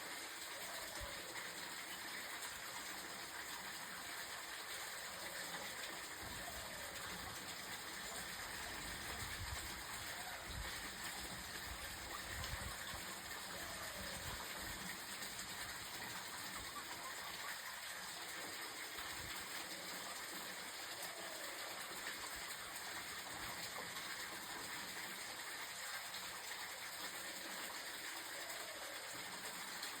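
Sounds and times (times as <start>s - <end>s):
steady outdoor hiss: 0.0s - 30.0s.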